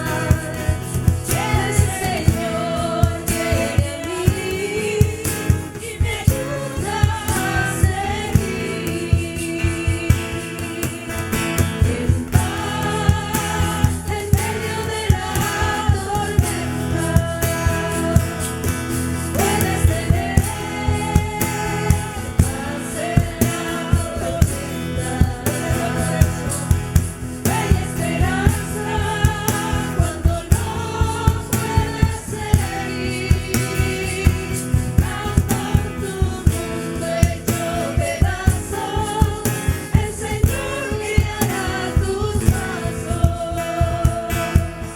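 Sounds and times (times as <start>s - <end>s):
steady drum beat: 0.0s - 44.9s
voices singing worship song: 0.0s - 44.9s.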